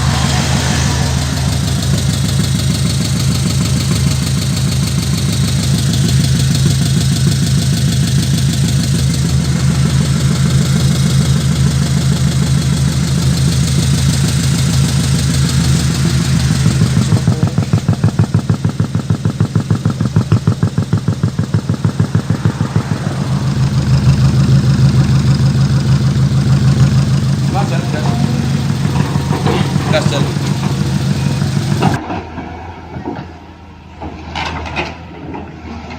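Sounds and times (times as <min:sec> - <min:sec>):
engine idling with throbbing pulse: 0:00.0 - 0:32.1.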